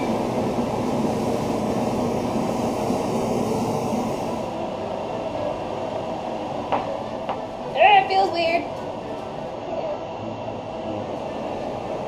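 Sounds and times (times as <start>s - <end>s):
range hood exhaust fan rumbling: 0.0s - 12.0s.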